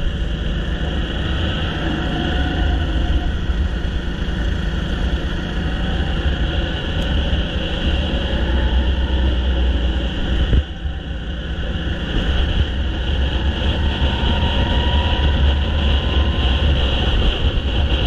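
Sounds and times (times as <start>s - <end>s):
go-kart engine running: 0.0s - 18.0s
heavy low rumble: 0.0s - 18.0s.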